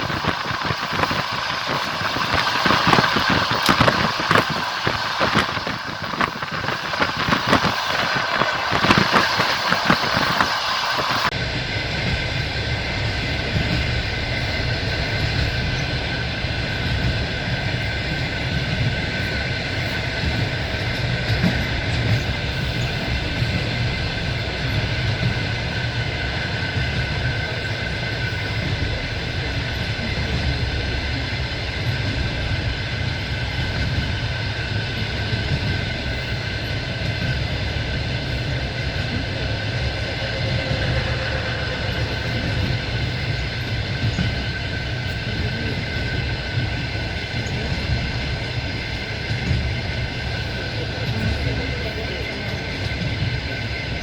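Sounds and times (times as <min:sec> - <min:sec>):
faint steady whine: 0:00.0 - 0:54.0
train wheels clattering on rails: 0:00.0 - 0:54.0.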